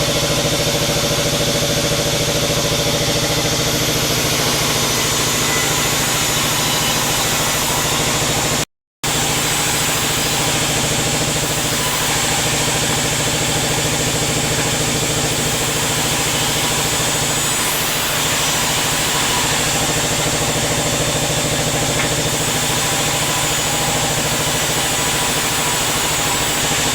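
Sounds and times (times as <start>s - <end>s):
bandsaw machine running: 0.0s - 26.9s.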